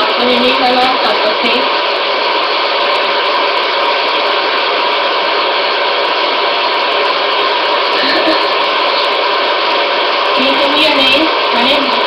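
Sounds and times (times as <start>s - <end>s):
loud white-noise hiss: 0.0s - 12.0s.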